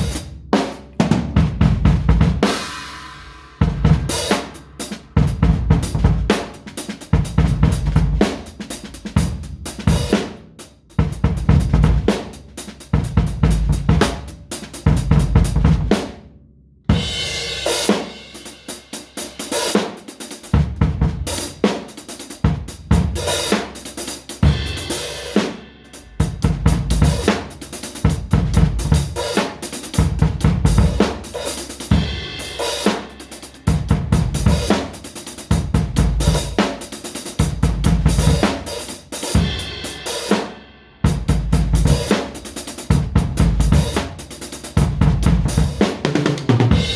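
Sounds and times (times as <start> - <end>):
drum kit playing: 0.0 - 16.3, 16.9 - 46.9.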